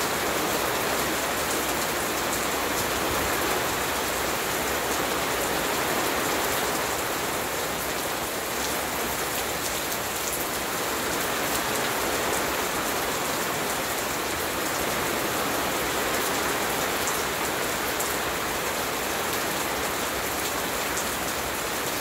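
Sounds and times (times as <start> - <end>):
rain falling on garden: 0.0 - 22.0.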